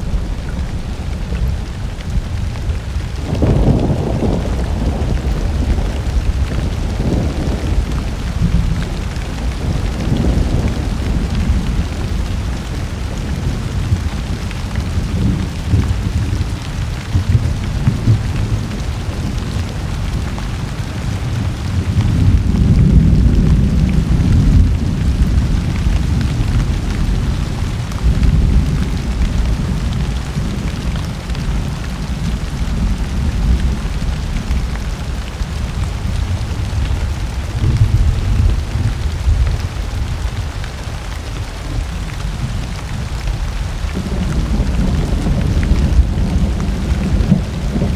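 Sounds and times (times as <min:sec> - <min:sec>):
low thunder rumbling: 0:00.0 - 0:47.9
steady rain: 0:00.0 - 0:47.9.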